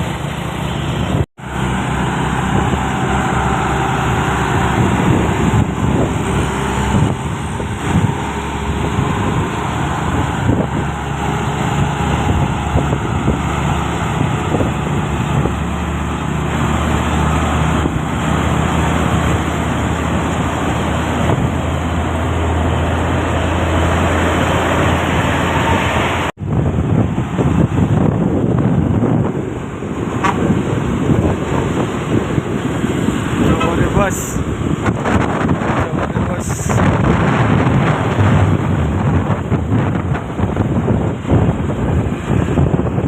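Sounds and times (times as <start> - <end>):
road and traffic noise: 0.0 - 43.0
truck diesel engine droning: 0.0 - 43.0.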